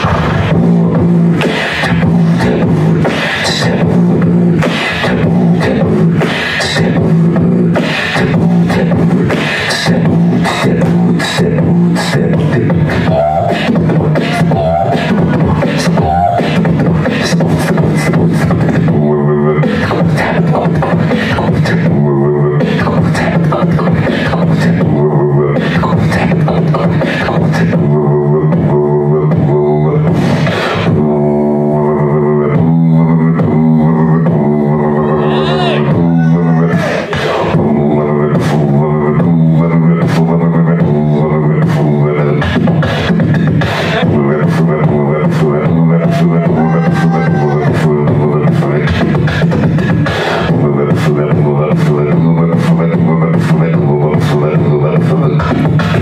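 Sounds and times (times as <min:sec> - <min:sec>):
person beatboxing into microphone: 0:00.0 - 0:56.0
wavering pitched vocal line: 0:00.0 - 0:56.0.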